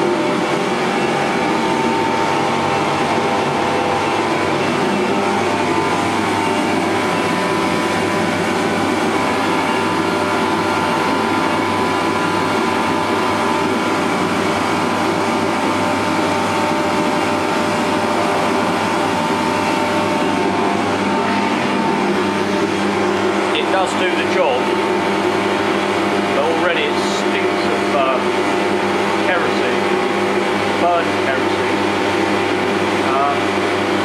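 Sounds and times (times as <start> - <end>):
space heater fan and burner rush: 0.0 - 34.0.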